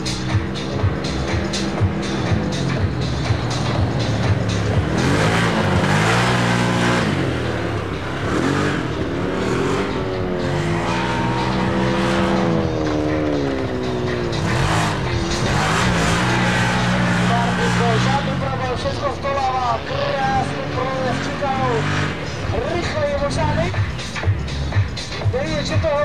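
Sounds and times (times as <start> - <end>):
low engine drone: 0.0 - 26.0
race car engines revving: 0.0 - 26.0.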